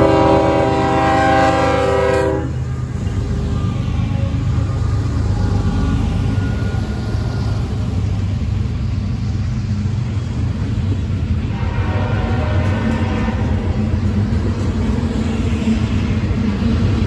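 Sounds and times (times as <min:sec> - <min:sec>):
diesel locomotive engines running: 0:00.0 - 0:17.0
freight cars rumbling over rails: 0:00.0 - 0:17.0.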